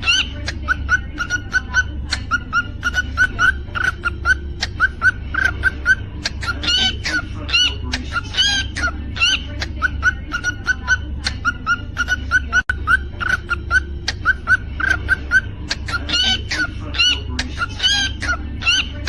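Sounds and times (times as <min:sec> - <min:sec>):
cockatiel chirping and whistling: 0:00.0 - 0:19.0.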